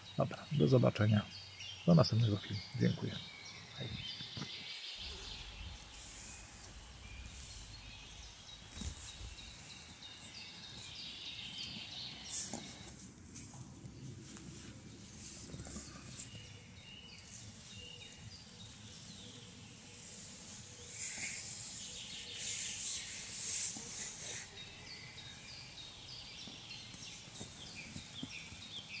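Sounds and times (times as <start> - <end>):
faint background noise: 0.0 - 29.0
small birds chirping: 0.0 - 29.0.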